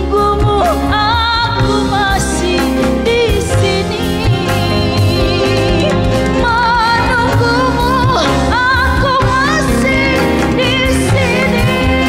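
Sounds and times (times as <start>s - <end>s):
live band with keyboard and bass: 0.0s - 12.0s
woman singing ballad with vibrato: 0.0s - 12.0s.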